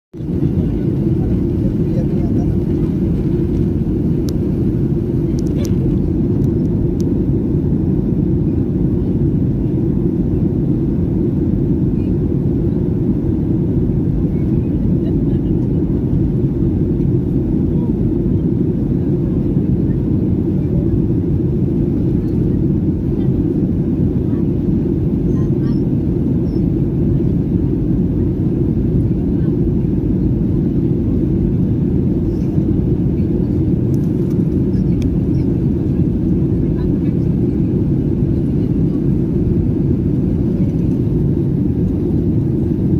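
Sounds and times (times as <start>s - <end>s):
airliner engines rumbling: 0.1s - 42.9s.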